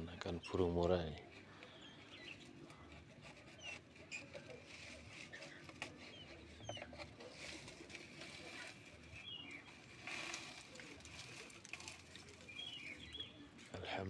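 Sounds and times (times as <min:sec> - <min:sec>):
rustling of nest material: 0:00.0 - 0:14.0.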